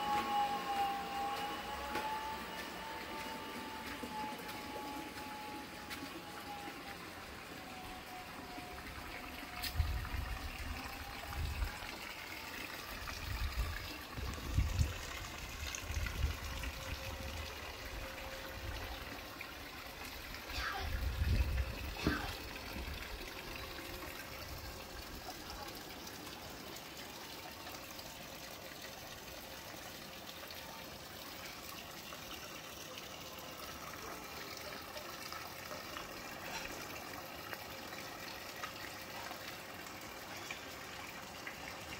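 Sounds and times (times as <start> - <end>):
water trickling into pool: 0.0 - 41.9.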